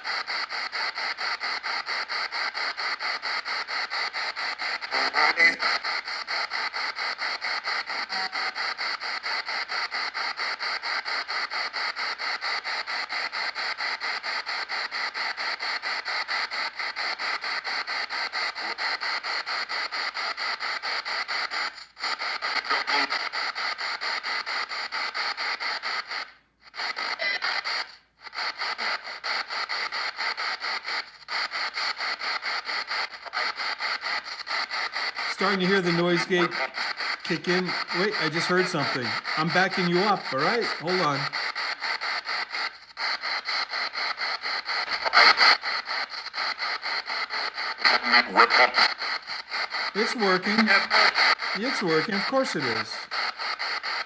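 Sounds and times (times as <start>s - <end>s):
choppy radio static sweeping: 0.0s - 10.7s, 17.5s - 26.2s, 26.8s - 54.0s.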